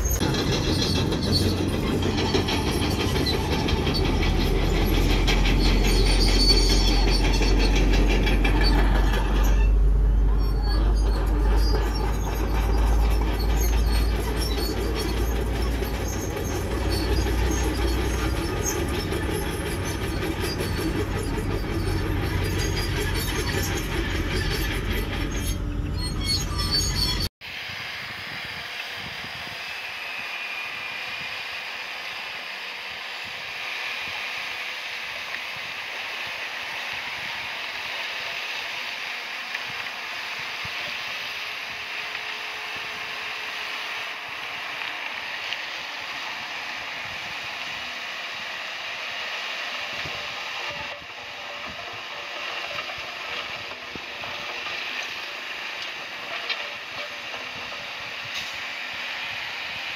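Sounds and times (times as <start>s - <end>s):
bulldozer clatter and grind: 0.0s - 27.3s, 32.6s - 59.9s.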